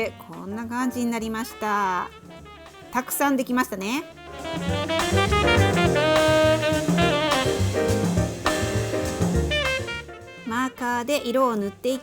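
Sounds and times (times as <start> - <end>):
upbeat jazz with saxophone: 0.0 - 12.0.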